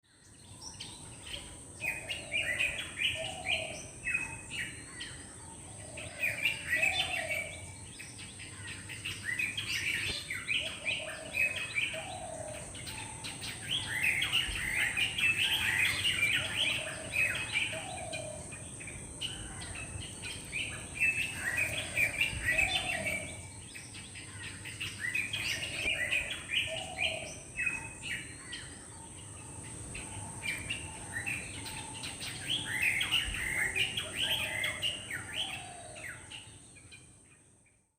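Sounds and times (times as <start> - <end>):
drongo whistled calls: 0.4 - 37.1.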